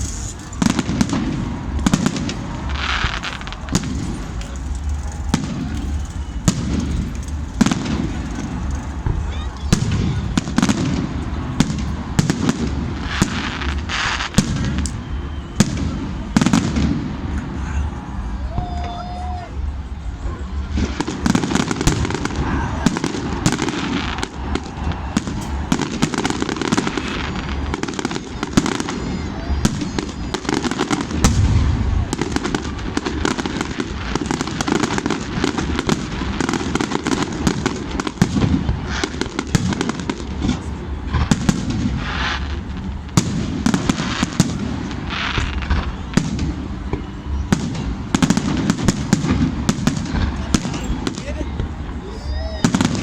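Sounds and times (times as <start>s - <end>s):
heavy firework boom: 0.0s - 17.9s, 19.6s - 52.0s
fireworks popping and banging: 0.0s - 53.0s
outdoor crowd murmur: 0.0s - 53.0s.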